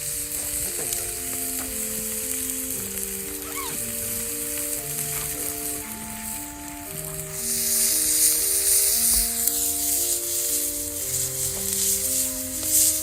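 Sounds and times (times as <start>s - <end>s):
meat sizzling: 0.0s - 13.0s
simple background music: 0.0s - 13.0s.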